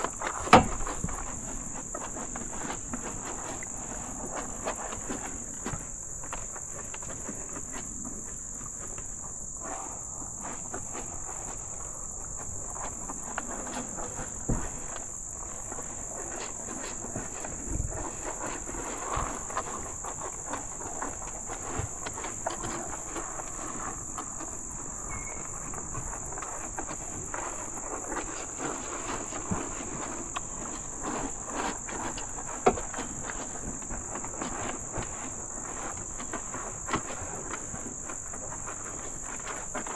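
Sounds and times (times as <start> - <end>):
cattle eating at a trough: 0.0 - 39.9
crickets chirping: 0.0 - 39.9.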